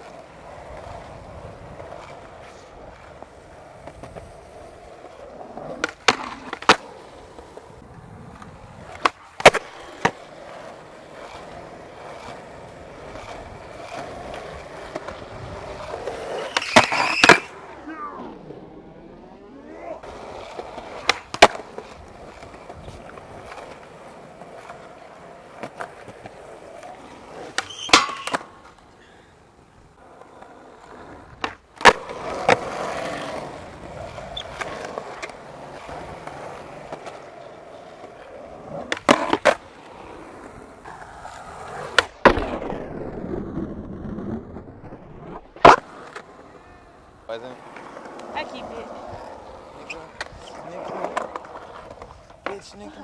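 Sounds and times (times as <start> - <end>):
skateboard popping and landing: 0.0 - 29.0, 29.6 - 53.0
skateboard wheels rolling on concrete: 0.0 - 53.0.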